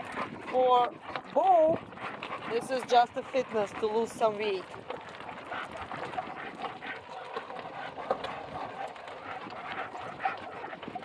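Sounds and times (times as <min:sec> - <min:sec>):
dogs' paws pattering: 0:00.0 - 0:11.0.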